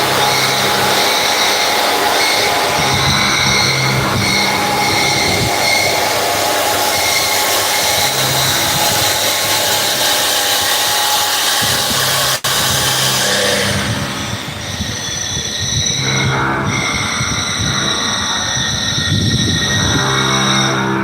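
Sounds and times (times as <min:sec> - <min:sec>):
machine running noise: 0:00.0 - 0:21.0.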